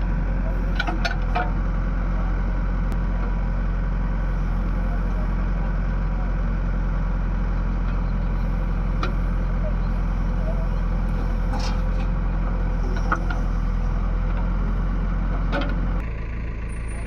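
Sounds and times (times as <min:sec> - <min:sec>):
heavy engine idling: 0:00.0 - 0:17.0.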